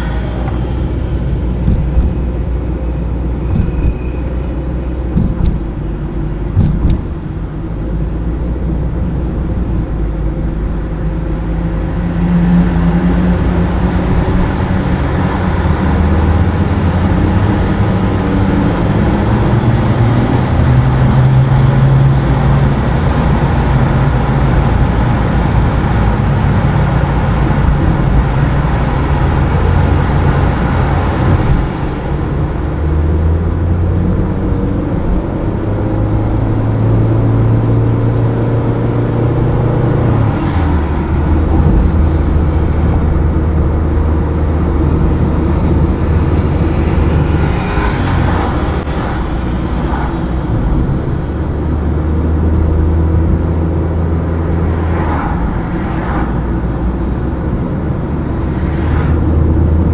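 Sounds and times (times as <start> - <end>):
car engine running: 0.0 - 59.9
tyre and road noise: 0.0 - 59.9.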